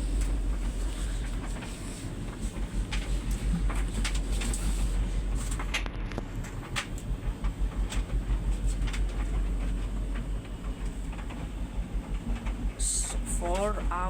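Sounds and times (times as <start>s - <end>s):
tumble dryer drum rumbling: 0.0s - 14.0s.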